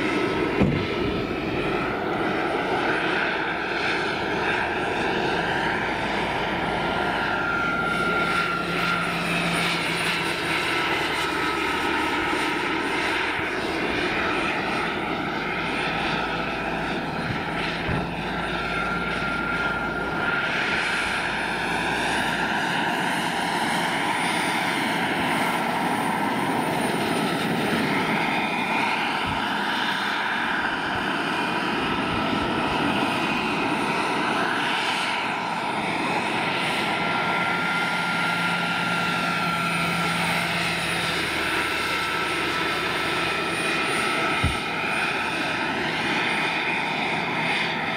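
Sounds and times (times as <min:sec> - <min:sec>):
model helicopter turbine whine: 0:00.0 - 0:47.9.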